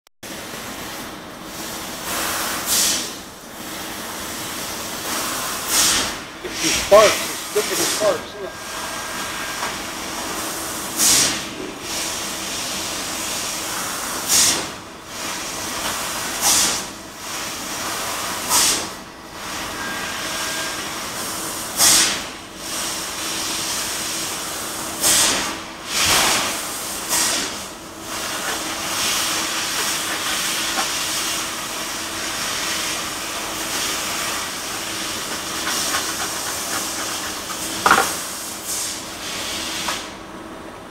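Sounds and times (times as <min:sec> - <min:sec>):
laser cutter gas hiss: 0:01.6 - 0:09.8, 0:10.7 - 0:40.1.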